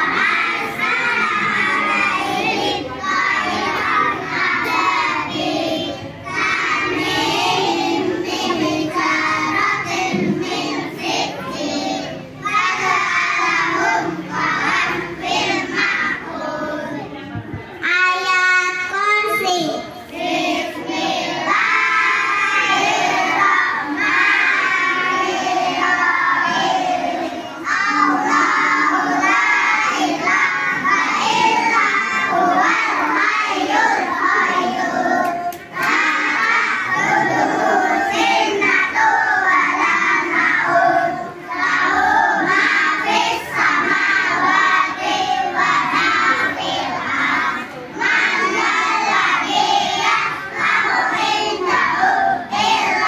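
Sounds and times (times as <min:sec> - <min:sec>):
children singing in unison: 0:00.0 - 0:53.0.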